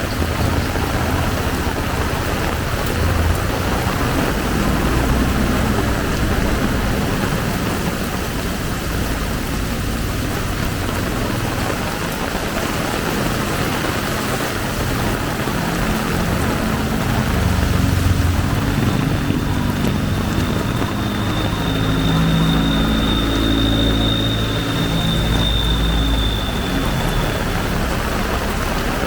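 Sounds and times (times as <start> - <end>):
heavy rain pouring: 0.0 - 29.0
vehicle engine rumble: 0.0 - 29.0.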